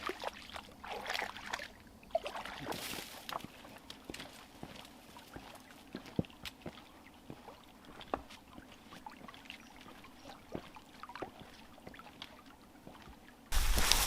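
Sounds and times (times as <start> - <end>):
footsteps splashing in water: 0.0 - 14.0.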